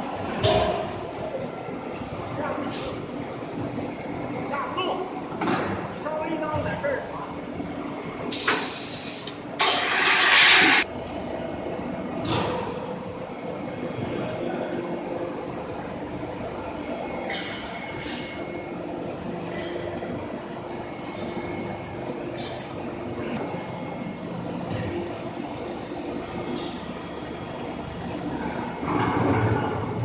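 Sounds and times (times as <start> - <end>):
industrial machine noise: 0.0 - 11.1, 11.8 - 30.0
high-pitched whine: 0.0 - 30.0.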